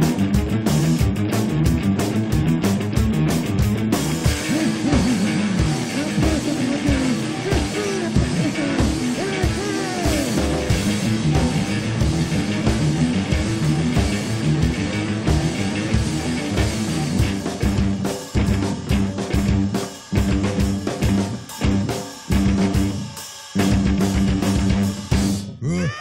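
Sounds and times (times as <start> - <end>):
steady drum beat: 0.0 - 25.5
electric guitar: 0.0 - 26.0.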